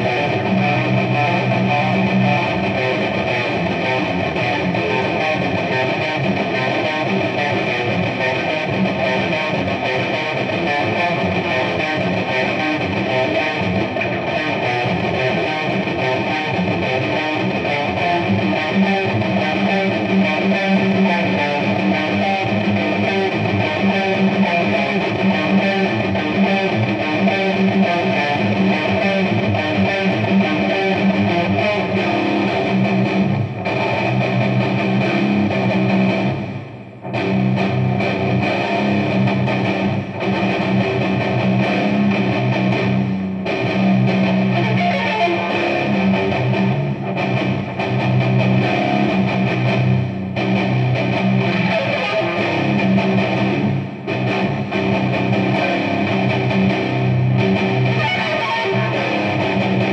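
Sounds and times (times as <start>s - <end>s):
distorted electric guitar riffing: 0.0s - 59.9s.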